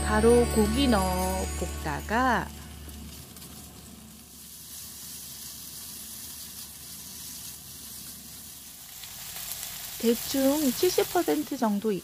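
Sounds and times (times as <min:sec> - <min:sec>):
meat sizzling in a frying pan: 0:02.3 - 0:12.0.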